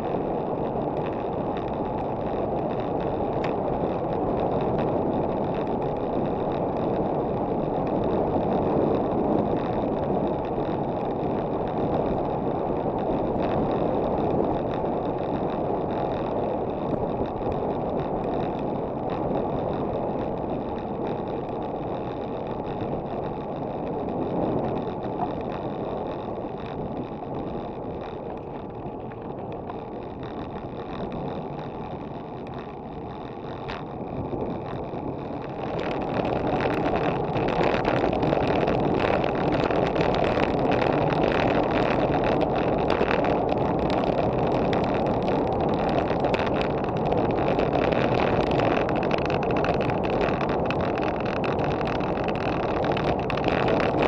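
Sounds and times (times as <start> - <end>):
bike tyres on asphalt: 0.0 - 54.0
wind rushing over microphone: 0.0 - 54.0.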